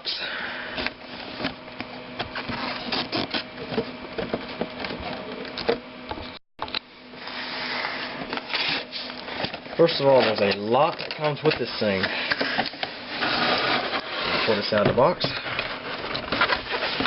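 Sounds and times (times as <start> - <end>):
cardboard rustling and scraping: 0.8 - 5.4, 7.2 - 17.0.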